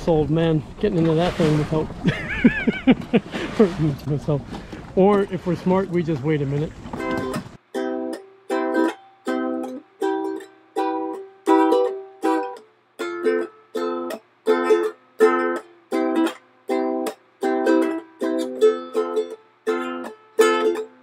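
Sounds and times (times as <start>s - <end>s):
plucked string instrument strumming: 2.9s - 21.0s.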